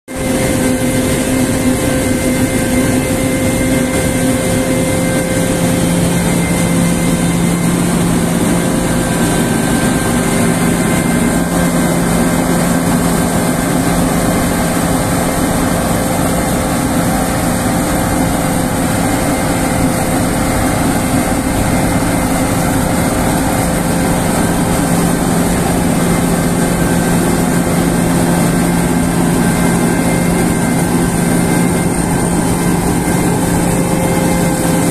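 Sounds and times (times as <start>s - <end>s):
combine harvester threshing: 0.2s - 34.9s.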